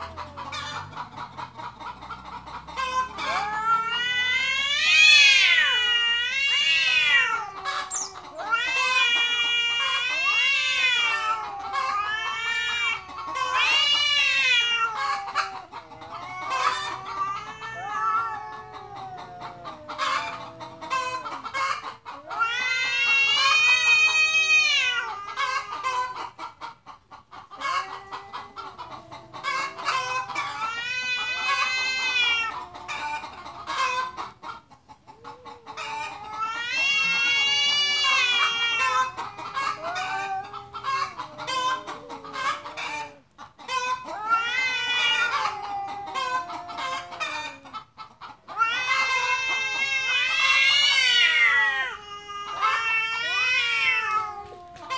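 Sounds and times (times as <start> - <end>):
cats yowling: 0.0 - 26.7, 27.4 - 54.9.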